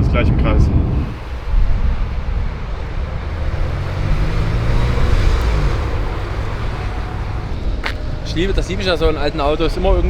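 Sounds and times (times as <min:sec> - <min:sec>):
car engine and road rumble: 0:00.6 - 0:10.0.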